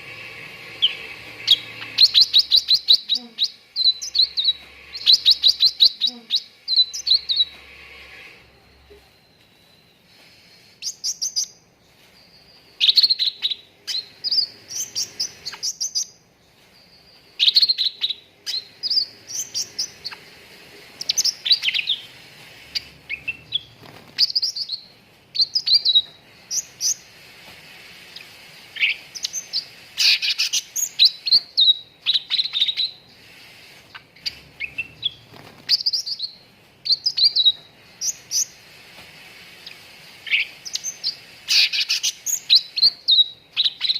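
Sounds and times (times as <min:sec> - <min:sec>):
songbird chirping and whistling: 0:00.1 - 0:38.8, 0:39.4 - 0:43.9.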